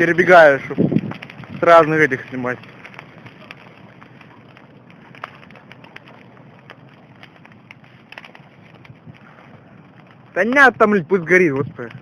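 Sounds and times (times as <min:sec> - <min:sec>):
bonfire crackling: 0:00.0 - 0:12.0.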